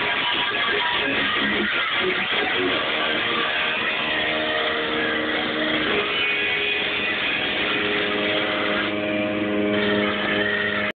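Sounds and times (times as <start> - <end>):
distorted electric guitar droning: 0.0 - 10.9.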